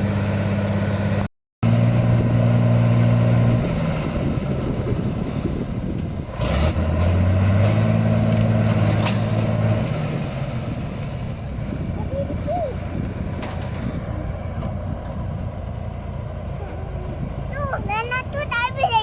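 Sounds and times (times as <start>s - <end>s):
combine harvester engine running: 0.0s - 19.0s.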